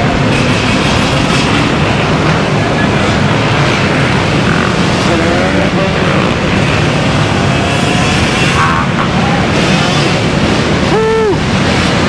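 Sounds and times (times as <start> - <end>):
faint engine: 0.0 - 12.0
traffic rushing noise: 0.0 - 12.0.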